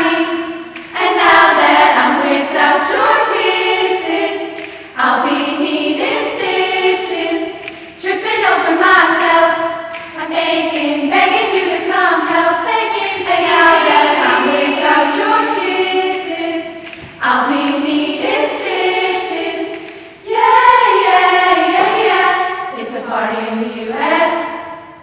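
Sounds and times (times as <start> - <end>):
girls' choir singing a cappella: 0.0 - 25.0.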